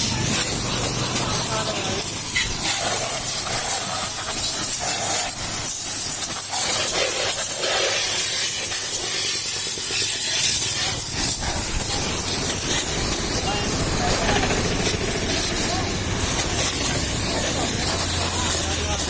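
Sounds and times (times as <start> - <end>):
pressure washer jet hissing: 0.0 - 19.0.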